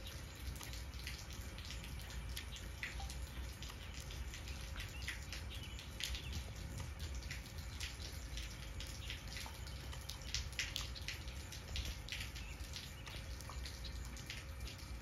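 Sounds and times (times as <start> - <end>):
light rain falling: 0.0 - 15.0
water drips and splats: 0.0 - 15.0.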